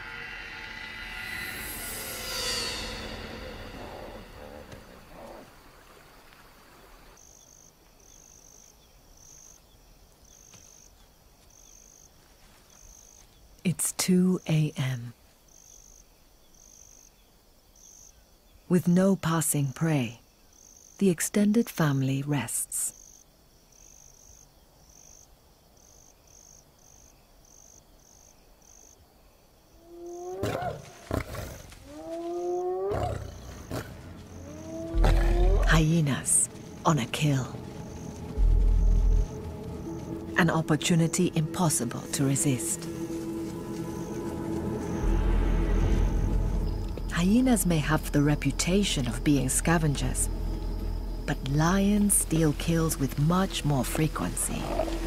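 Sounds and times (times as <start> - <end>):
cricket chirping faintly: 0.0 - 55.0.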